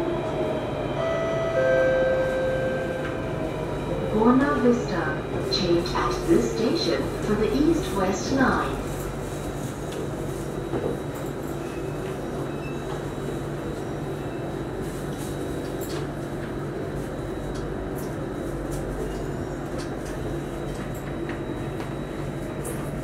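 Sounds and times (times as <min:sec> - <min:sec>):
train car low hum: 0:00.0 - 0:23.0.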